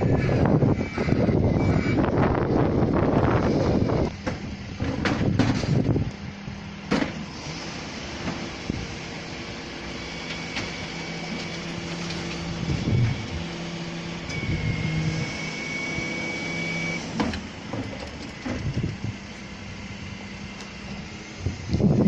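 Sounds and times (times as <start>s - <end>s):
diesel engine running: 0.0s - 22.0s
high steady whine: 0.0s - 22.0s.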